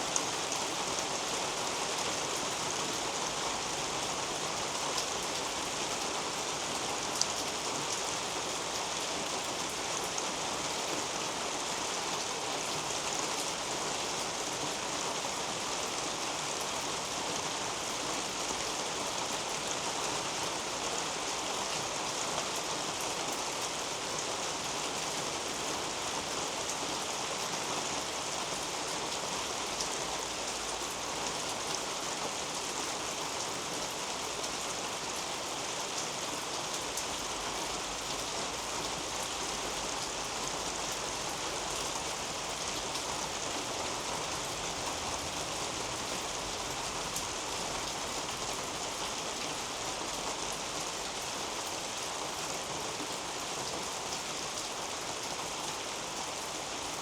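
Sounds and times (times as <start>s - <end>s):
rain on foliage: 0.0s - 57.0s.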